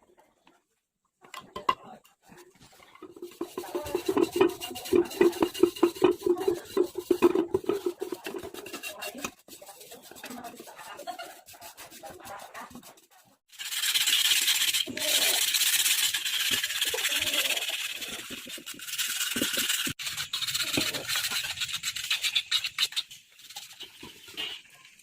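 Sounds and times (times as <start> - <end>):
rasping scrape of filing metal: 2.8 - 23.0.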